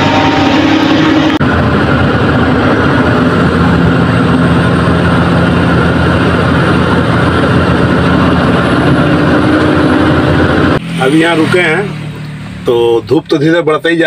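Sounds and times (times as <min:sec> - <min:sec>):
road and wind noise: 0:00.0 - 0:14.0
truck diesel engine humming: 0:00.0 - 0:14.0.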